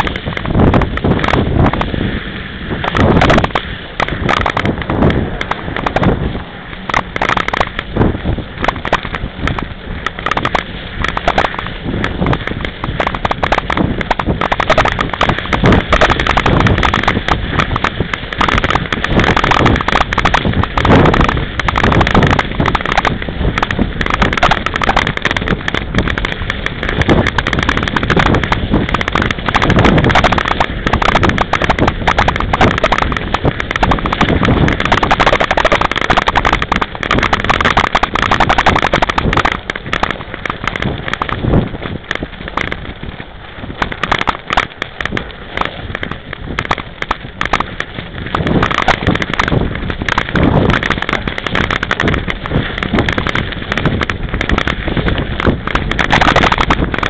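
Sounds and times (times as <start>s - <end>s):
mountain bike clattering over bumps: 0.0s - 2.0s, 2.7s - 6.2s, 6.8s - 57.0s
wind buffeting microphone: 0.0s - 57.0s.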